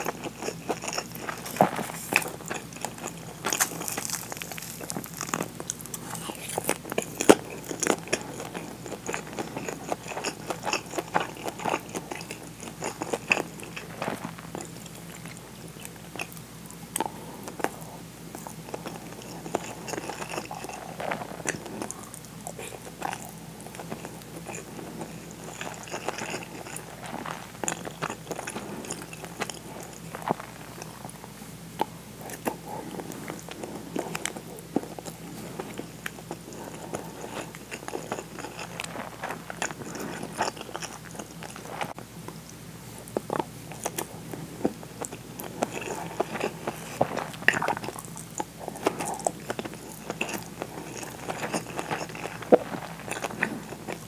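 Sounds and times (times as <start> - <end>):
person chewing rice: 0.0 - 54.0.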